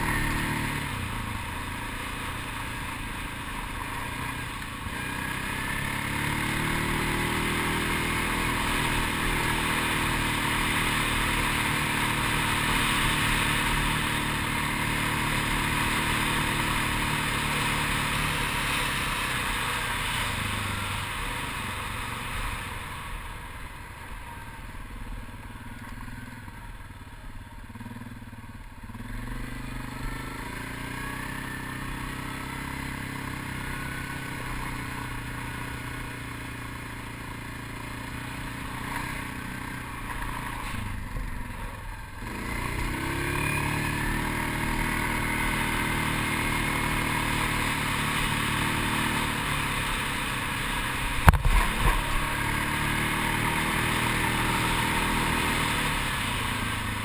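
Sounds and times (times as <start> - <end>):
quad bike engine revving: 0.0 - 23.4, 27.6 - 57.0.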